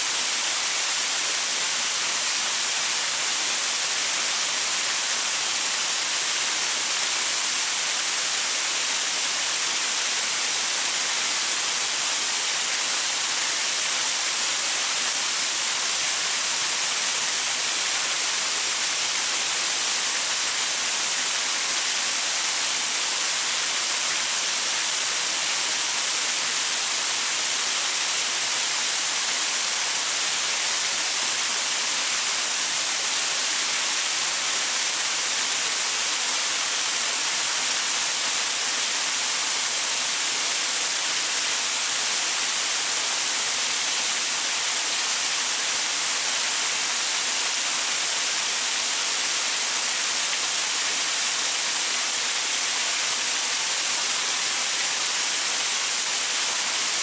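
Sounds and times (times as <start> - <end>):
waterfall pouring over rocks: 0.0 - 57.0.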